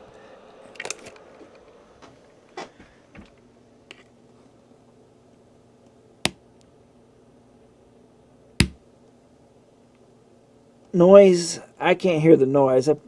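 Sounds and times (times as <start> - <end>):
fan whirring: 0.0 - 12.9.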